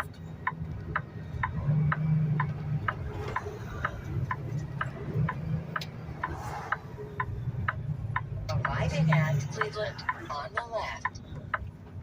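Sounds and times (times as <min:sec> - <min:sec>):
truck engine drone: 0:00.0 - 0:12.0
turn signal ticking: 0:00.0 - 0:12.0.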